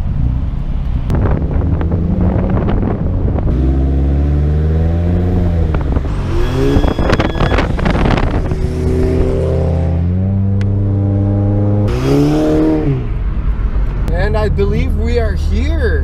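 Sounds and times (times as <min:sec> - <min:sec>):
car engine accelerating: 0:00.0 - 0:15.5.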